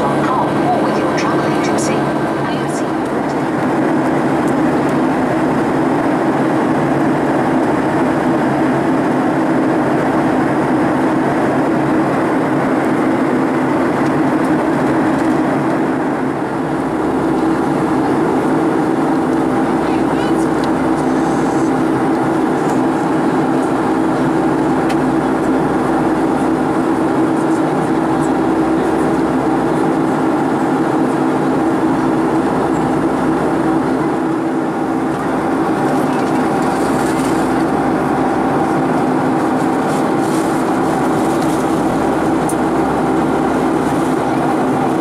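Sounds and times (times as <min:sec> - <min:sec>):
airplane engine drone: 0:00.0 - 0:45.0
steady low hum: 0:00.0 - 0:45.0.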